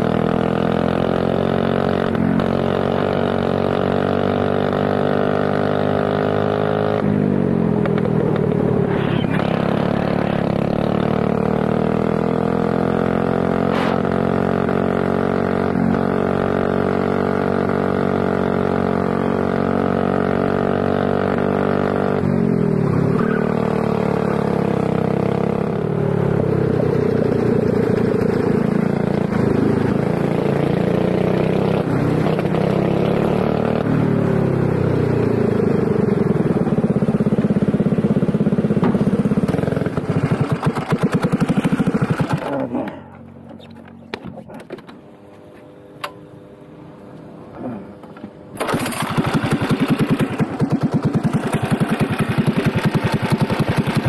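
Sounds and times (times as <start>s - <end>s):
kart engine at high revs: 0.0s - 44.0s, 47.5s - 54.0s.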